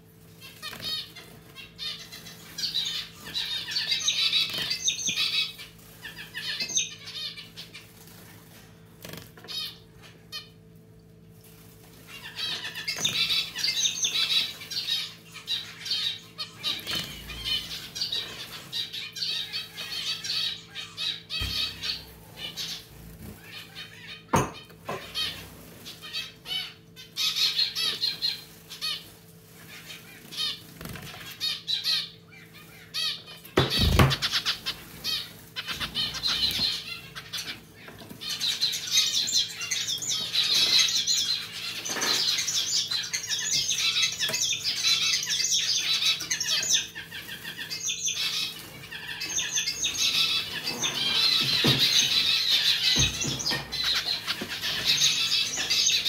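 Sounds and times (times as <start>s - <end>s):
steady low hum: 0.0s - 45.2s
finch calls: 0.4s - 10.6s, 12.0s - 56.0s.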